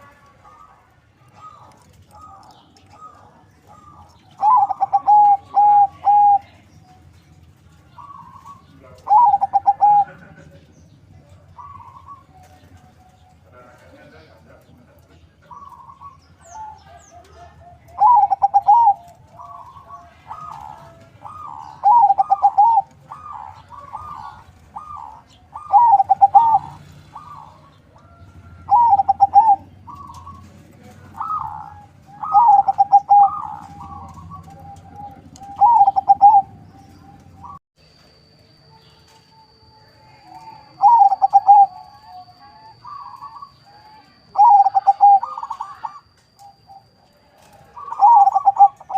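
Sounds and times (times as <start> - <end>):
dove cooing: 0.0 - 37.6, 39.8 - 48.9.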